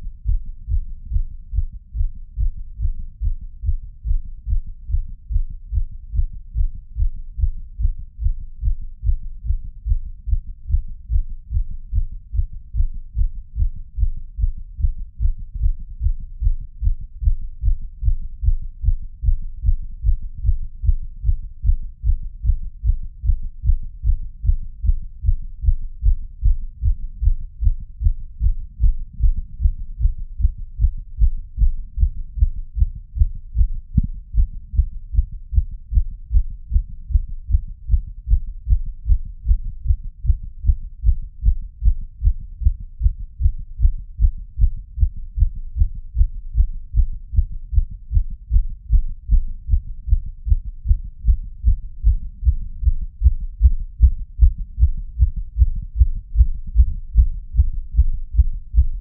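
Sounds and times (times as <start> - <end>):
fast heartbeat thumps: 0.0 - 59.0.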